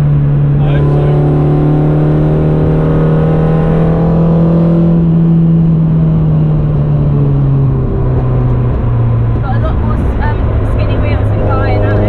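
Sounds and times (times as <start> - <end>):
car engine at high revs: 0.0 - 12.0
road noise: 0.0 - 12.0.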